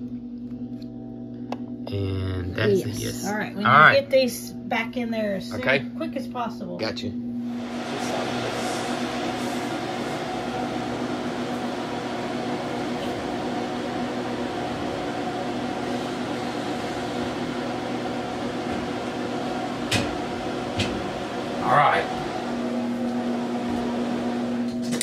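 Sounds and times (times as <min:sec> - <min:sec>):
fan motor humming: 0:00.0 - 0:25.0.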